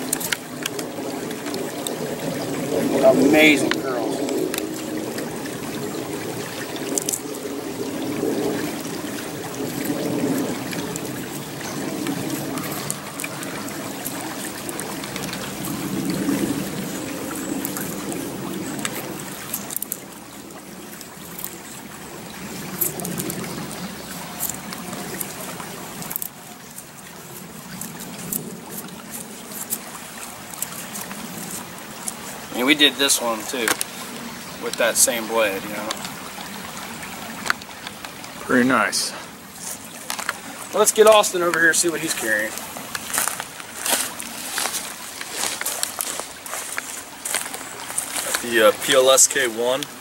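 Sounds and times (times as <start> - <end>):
running water: 0.0 - 50.0.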